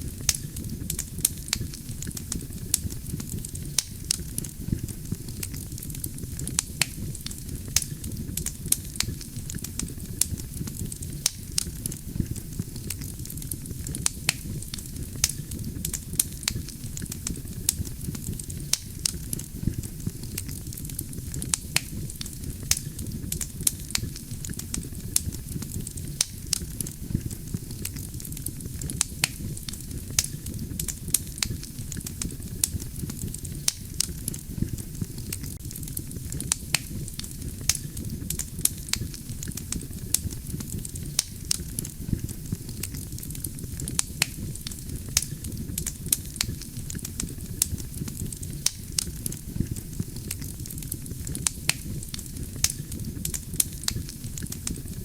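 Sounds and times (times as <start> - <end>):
campfire flames rumbling: 0.0 - 55.0
logs crackling and popping: 0.0 - 55.0.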